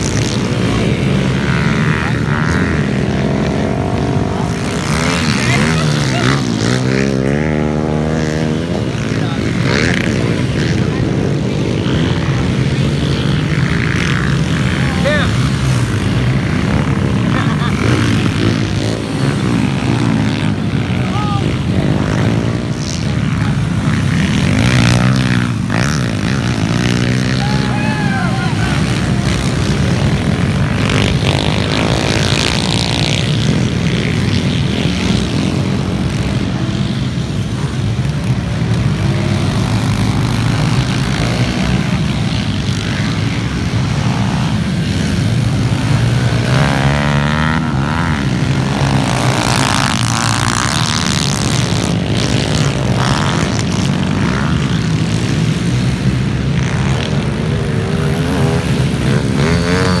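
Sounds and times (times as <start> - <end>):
dirt bike engines revving: 0.0 - 60.0.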